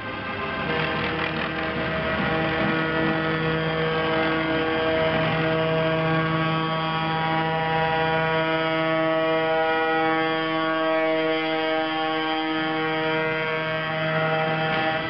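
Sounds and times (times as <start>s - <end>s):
tractor diesel engines: 0.0s - 15.0s.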